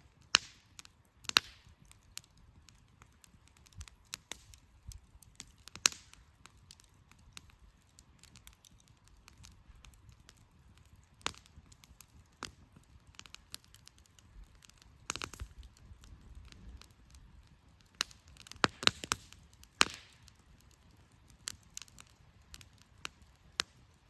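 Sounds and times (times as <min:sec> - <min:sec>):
sharp pops from fire: 0:00.0 - 0:24.0
wood fire crackling: 0:00.0 - 0:24.0.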